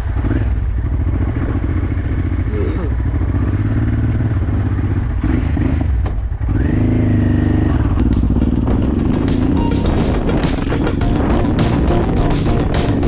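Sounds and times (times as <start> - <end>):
motorcycle engine running: 0.2 - 13.0.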